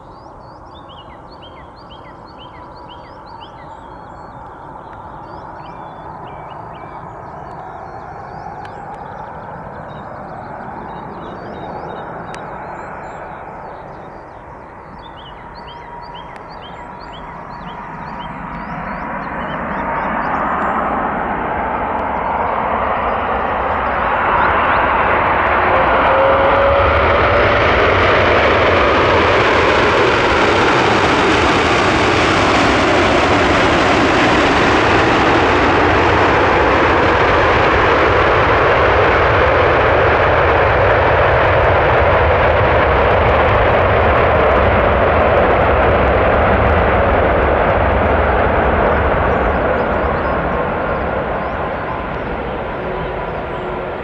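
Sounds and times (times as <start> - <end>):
jet engines in reverse thrust: 0.0 - 54.0.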